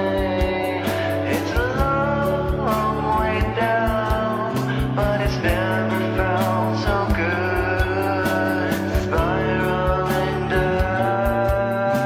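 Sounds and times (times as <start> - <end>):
song with drum beat and bass: 0.0 - 12.0.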